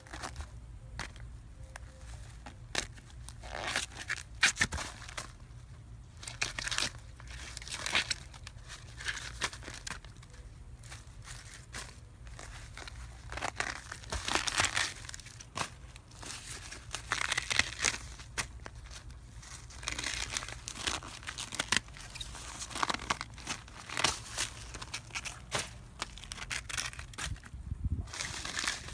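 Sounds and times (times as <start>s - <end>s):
dry leaves and paper crinkling: 0.0s - 28.9s.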